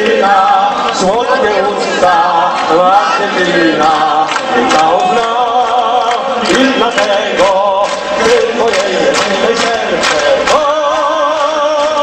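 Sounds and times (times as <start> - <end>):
audience singing along: 0.0 - 12.0
voices singing over music: 0.0 - 12.0.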